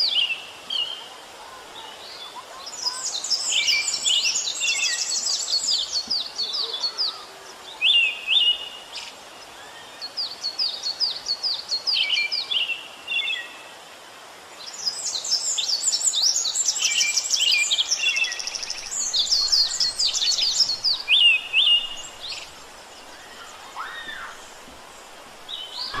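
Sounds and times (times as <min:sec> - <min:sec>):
songbirds chirping and trilling: 0:00.0 - 0:13.8, 0:14.5 - 0:26.0
faint background hiss: 0:00.0 - 0:26.0.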